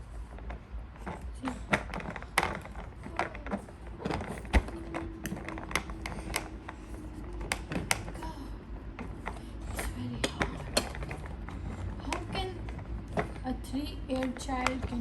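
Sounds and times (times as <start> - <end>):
plastic toy parts clicking: 0.3 - 15.0.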